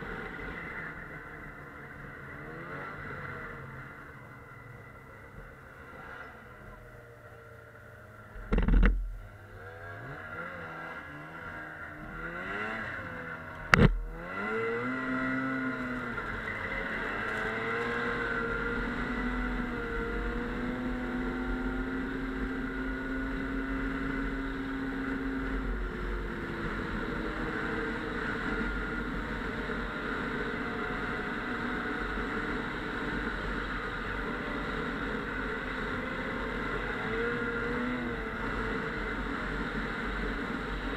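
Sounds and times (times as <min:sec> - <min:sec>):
snowmobile engine: 0:00.0 - 0:40.9.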